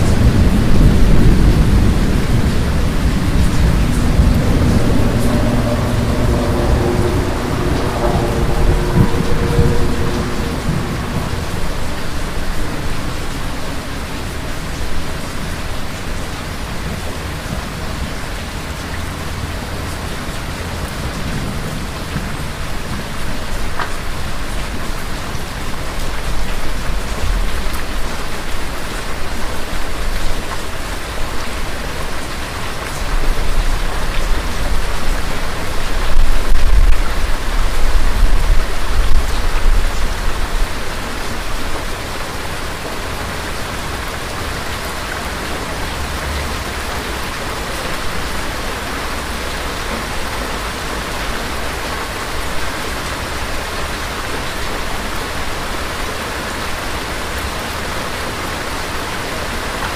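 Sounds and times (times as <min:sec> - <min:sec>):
low rumble of thunder: 0:00.0 - 0:52.8
steady rain hissing: 0:00.0 - 0:59.9.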